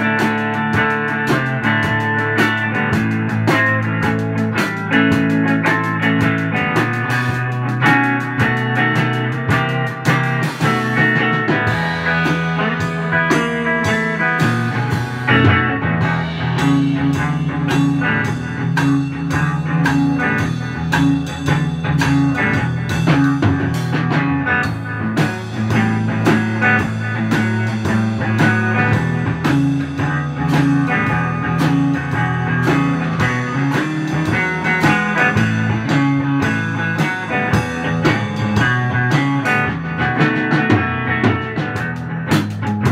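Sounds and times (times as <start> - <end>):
drum kit beat: 0.0 - 42.9
electric guitar playing: 0.0 - 42.9.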